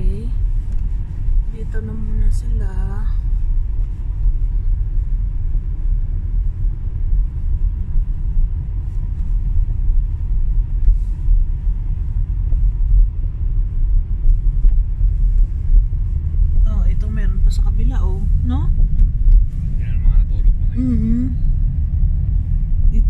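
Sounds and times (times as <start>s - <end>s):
car rumble from inside cabin: 0.0s - 23.0s.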